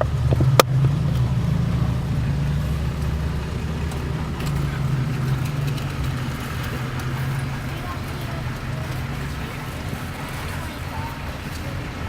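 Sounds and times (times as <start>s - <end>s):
car engine running low: 0.0s - 12.0s.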